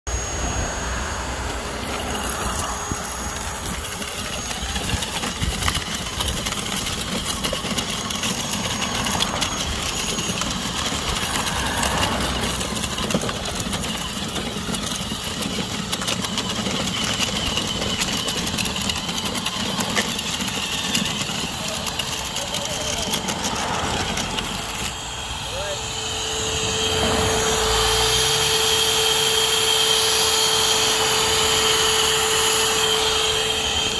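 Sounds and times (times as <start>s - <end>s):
small electric motors whirring: 0.1s - 33.9s.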